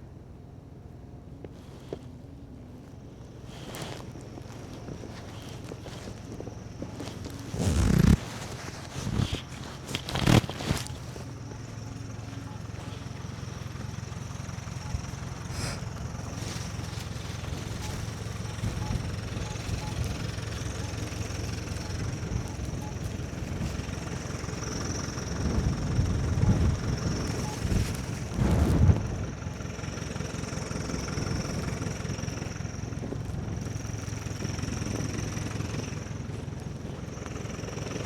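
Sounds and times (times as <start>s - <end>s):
vehicle engine rumble: 0.0s - 38.0s.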